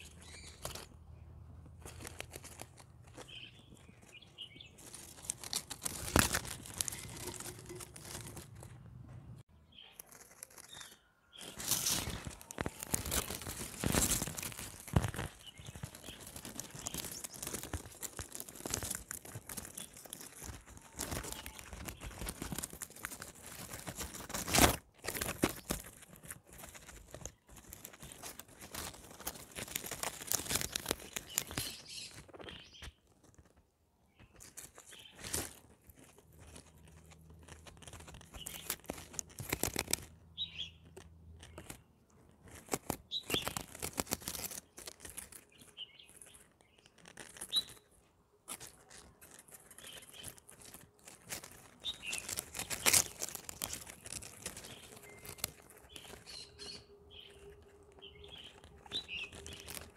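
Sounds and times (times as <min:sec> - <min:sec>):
guinea pigs crunching greens: 0:00.0 - 0:59.9.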